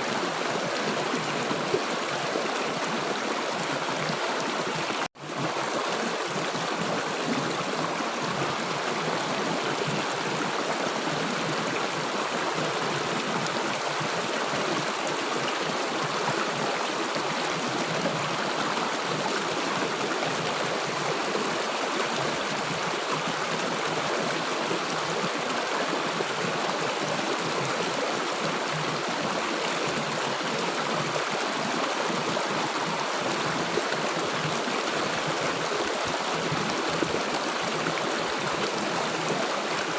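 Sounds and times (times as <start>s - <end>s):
river water flowing and gurgling: 0.0s - 39.9s.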